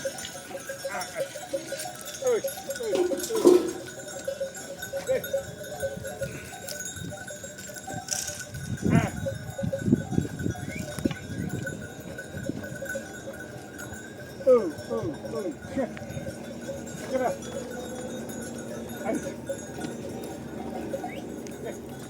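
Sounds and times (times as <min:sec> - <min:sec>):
animal bells clinking: 0:00.0 - 0:22.0.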